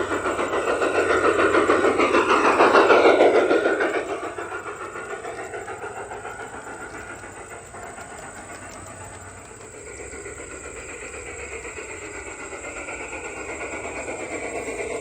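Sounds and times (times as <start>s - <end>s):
faint clicking from rails: 0.0s - 15.0s
model train running on track: 0.0s - 15.0s.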